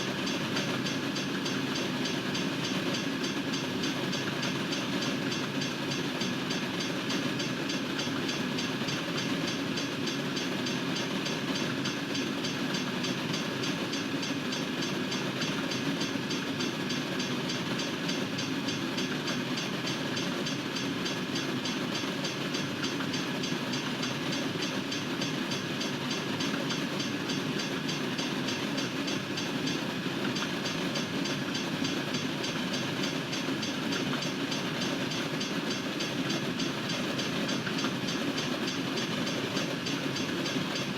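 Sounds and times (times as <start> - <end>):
freight train wheels clacking: 0.1 - 40.9.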